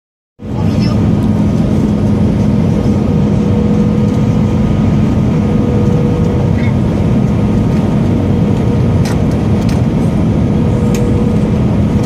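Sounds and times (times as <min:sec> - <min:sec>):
airliner engine and airflow rumble: 0:00.4 - 0:12.0.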